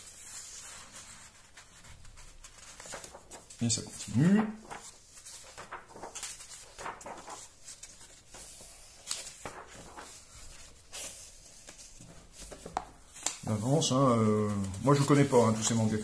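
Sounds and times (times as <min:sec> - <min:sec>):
magazine pages turning: 0:00.0 - 0:16.0.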